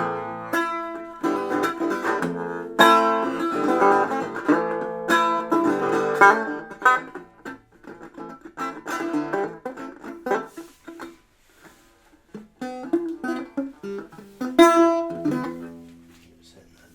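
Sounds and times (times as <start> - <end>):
plucked string instrument: 0.0 - 16.7.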